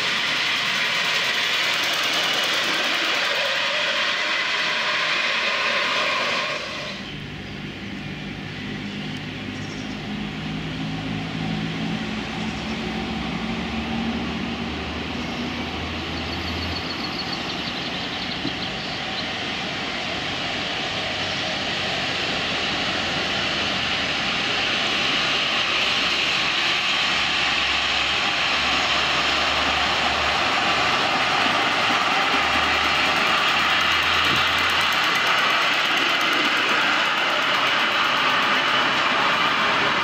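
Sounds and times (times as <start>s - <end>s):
miniature train running on track: 0.0s - 40.0s.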